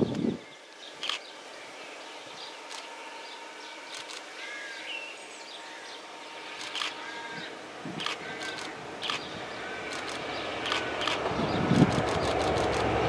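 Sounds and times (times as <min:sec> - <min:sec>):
small birds chirping: 0:00.0 - 0:12.7
faint outdoor hiss: 0:00.0 - 0:13.0.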